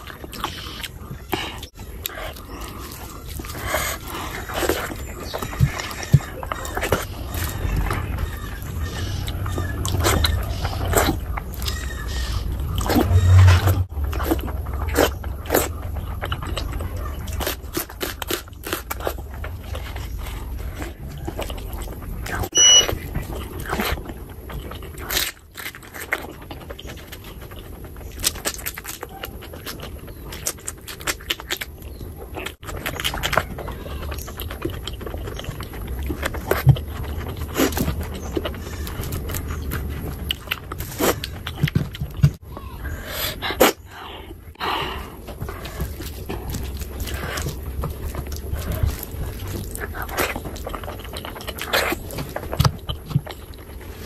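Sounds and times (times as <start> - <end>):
wet chewing and lip smacking: 0.0 - 54.0.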